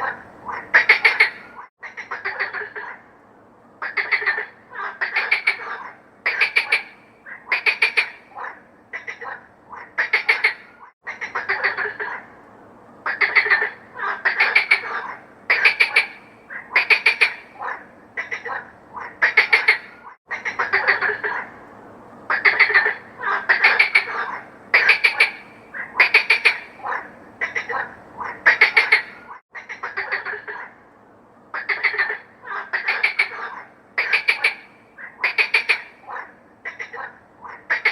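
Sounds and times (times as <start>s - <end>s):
frogs croaking: 0.0s - 3.2s, 3.8s - 12.4s, 13.0s - 21.7s, 22.3s - 30.8s, 31.5s - 37.9s.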